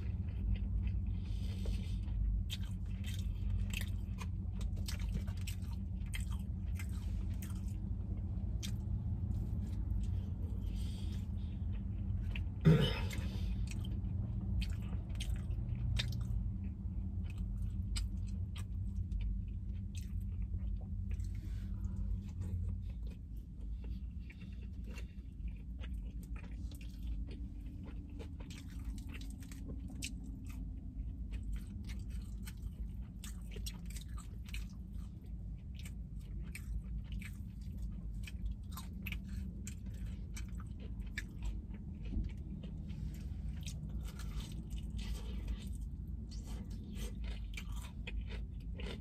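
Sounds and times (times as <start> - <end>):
chewing crispy fried chicken: 0.0 - 49.0
low hum: 0.0 - 49.0.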